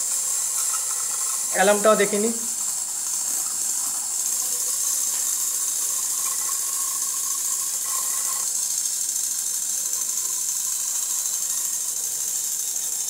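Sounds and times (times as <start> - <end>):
alarm clock movement hissing: 0.0 - 13.0.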